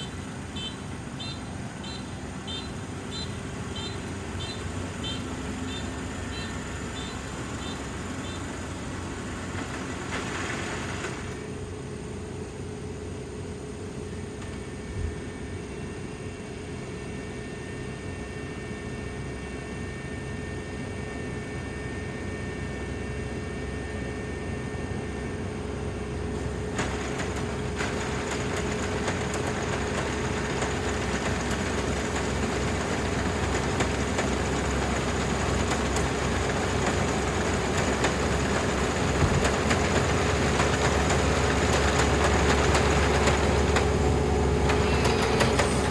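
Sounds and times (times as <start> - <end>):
combine harvester whining: 0.0 - 45.9.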